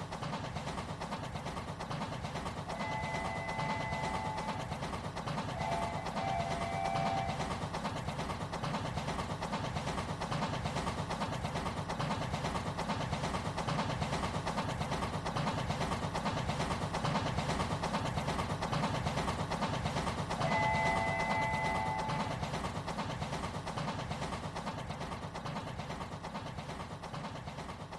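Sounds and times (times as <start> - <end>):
toy train rattling on track: 0.0 - 27.9.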